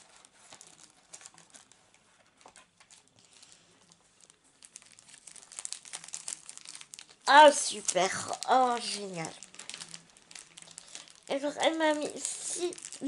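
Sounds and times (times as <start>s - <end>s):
gift packaging crinkling: 0.0s - 13.0s.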